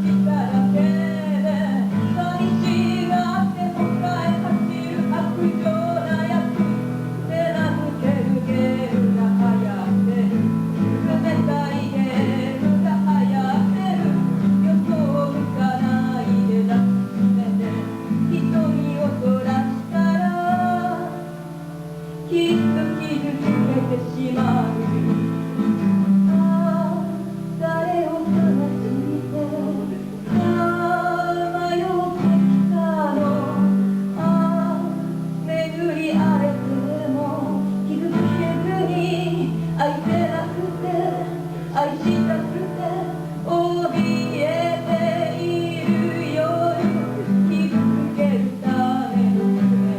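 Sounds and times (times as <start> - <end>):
strummed acoustic guitar: 0.0 - 49.9
woman singing: 0.0 - 49.9.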